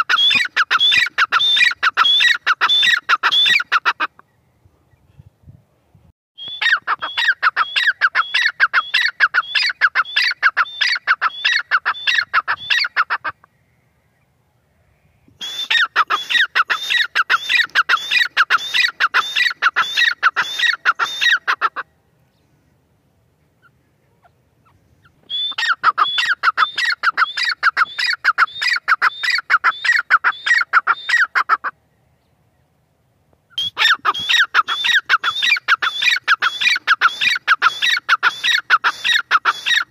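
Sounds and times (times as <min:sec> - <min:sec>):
francolin shrill territorial call: 0:00.0 - 0:04.1, 0:06.4 - 0:14.0, 0:14.9 - 0:21.8, 0:23.6 - 0:31.7, 0:33.5 - 0:39.9.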